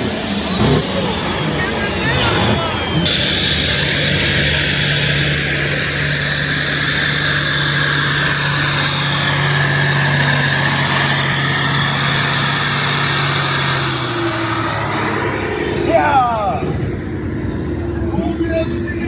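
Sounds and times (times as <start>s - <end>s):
tractor engine running steadily: 0.0s - 19.0s.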